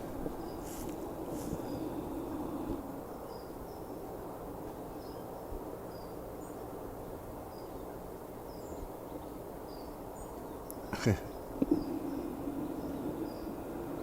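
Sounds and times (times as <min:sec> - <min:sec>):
small birds chirping: 0:00.0 - 0:06.8, 0:07.4 - 0:14.0
low background noise: 0:00.0 - 0:14.0.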